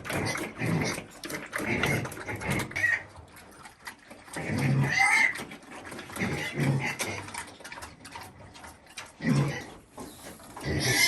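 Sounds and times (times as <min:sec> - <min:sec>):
farm animal low calls: 0:00.0 - 0:11.0.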